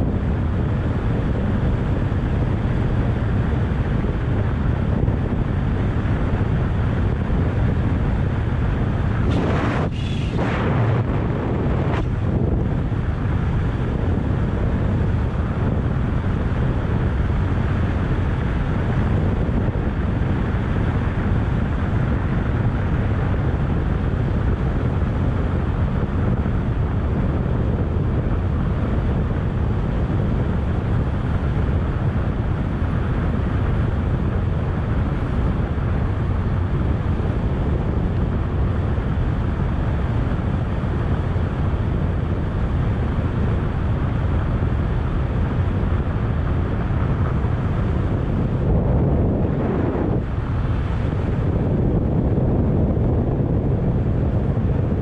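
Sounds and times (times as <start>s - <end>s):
scooter engine and road noise: 0.0s - 55.0s
wind rush on microphone: 0.0s - 55.0s.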